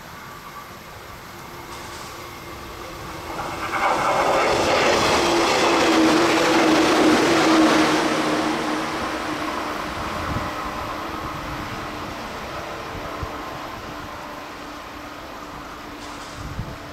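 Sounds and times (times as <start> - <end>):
train wheel and rail noise: 0.0 - 16.9.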